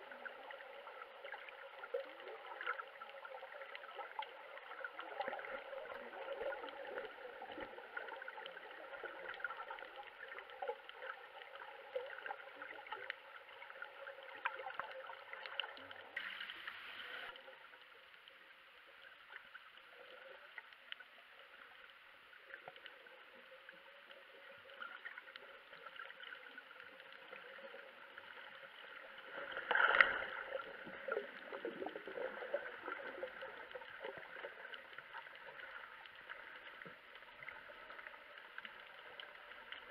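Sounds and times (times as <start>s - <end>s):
underwater water wash: 0.0s - 39.9s
small crackling clicks: 0.1s - 39.9s.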